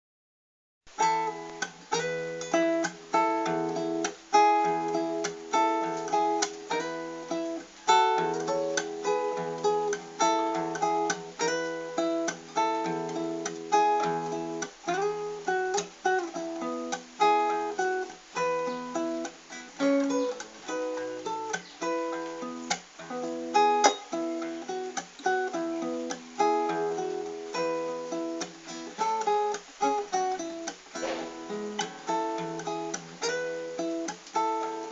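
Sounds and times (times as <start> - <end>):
acoustic guitar chords: 0.9 - 34.9.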